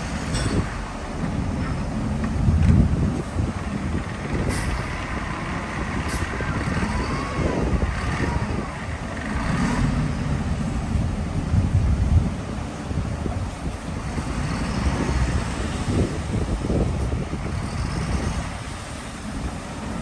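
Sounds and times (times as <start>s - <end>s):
diesel machinery low rumble: 0.0s - 20.0s.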